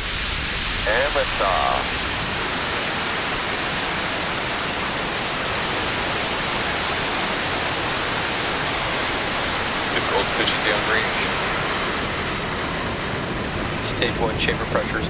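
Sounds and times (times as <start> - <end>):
rocket engines roaring: 0.0 - 15.0.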